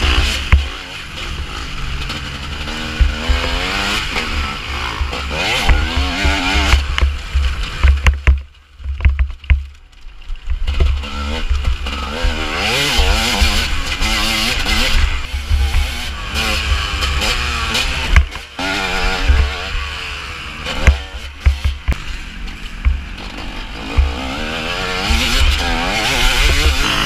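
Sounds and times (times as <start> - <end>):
dirt bike revving: 0.0 - 27.0.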